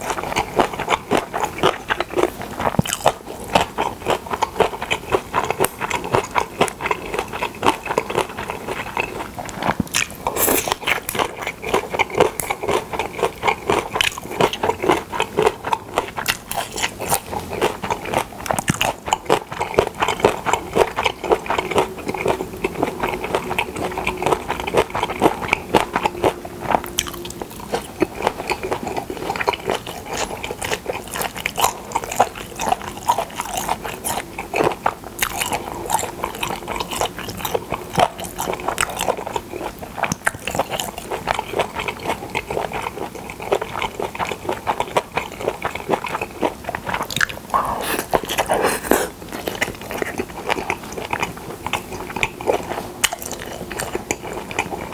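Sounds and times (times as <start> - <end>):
crunchy wet chewing: 0.0 - 54.9.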